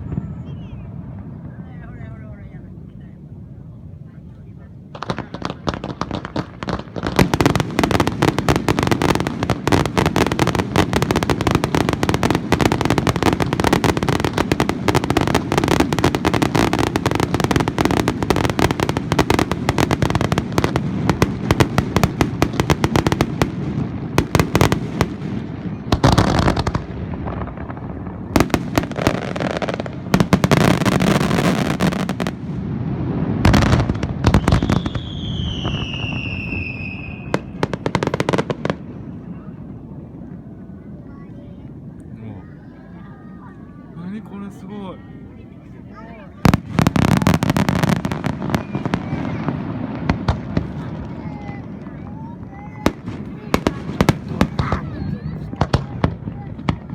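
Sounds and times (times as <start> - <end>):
heavy firework booms with echo: 0.0 - 42.0, 46.4 - 56.9
fireworks bangs and crackles: 0.0 - 56.9.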